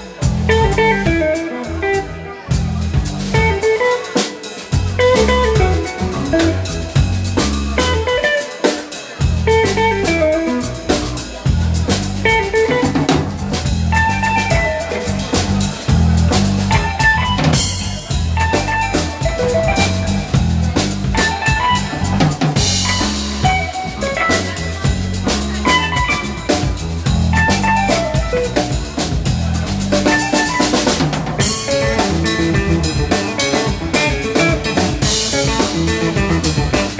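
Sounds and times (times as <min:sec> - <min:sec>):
electric bass: 0:00.0 - 0:04.1, 0:04.7 - 0:08.4, 0:09.1 - 0:36.9
drum kit: 0:00.0 - 0:36.9
electric guitar lead line: 0:00.0 - 0:36.9.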